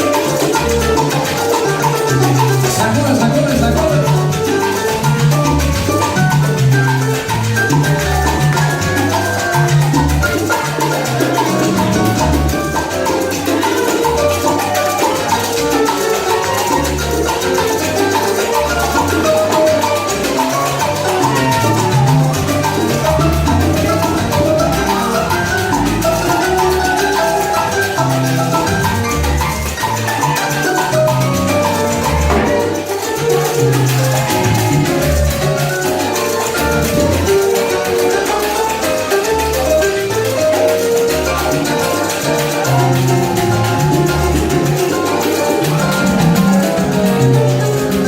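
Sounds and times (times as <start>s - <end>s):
hand percussion: 0.0s - 48.0s
live salsa band playing: 0.0s - 48.0s.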